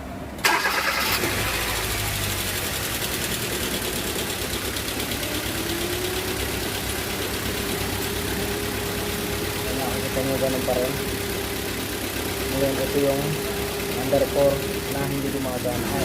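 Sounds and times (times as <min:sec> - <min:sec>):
car engine idling with misfire: 0:00.4 - 0:16.0.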